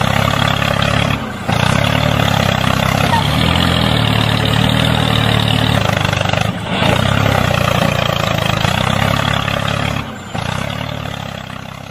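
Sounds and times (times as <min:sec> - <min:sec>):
truck engine running: 0:00.0 - 0:11.9.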